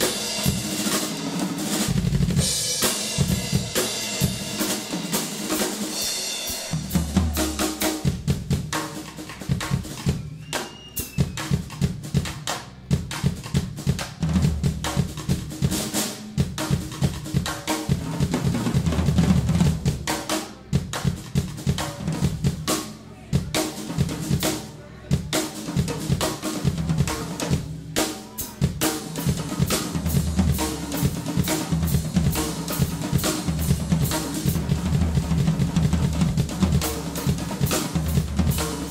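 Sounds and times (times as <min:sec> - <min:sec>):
drum kit played hard: 0:00.0 - 0:38.9.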